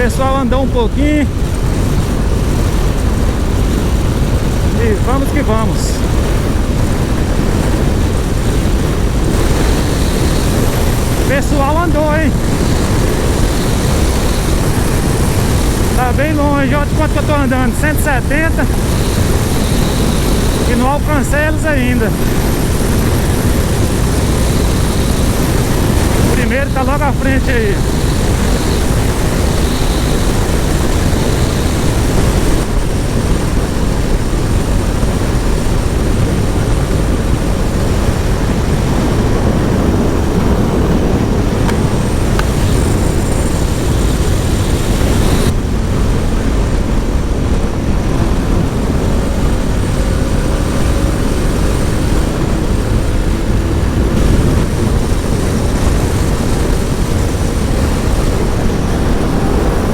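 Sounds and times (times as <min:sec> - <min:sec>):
motorcycle engine drone: 0:00.0 - 0:59.9
wind roar on microphone: 0:00.0 - 0:59.9.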